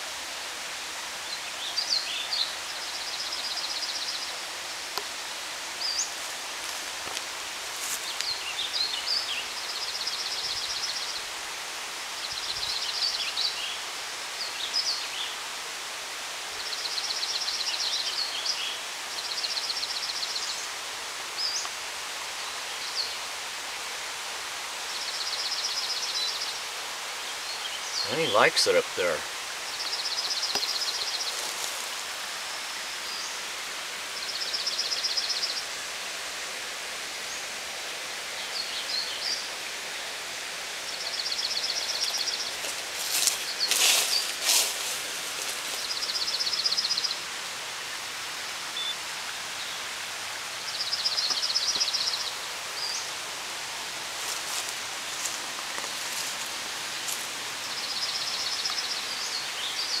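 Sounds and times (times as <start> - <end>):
outdoor background noise: 0.0 - 60.0.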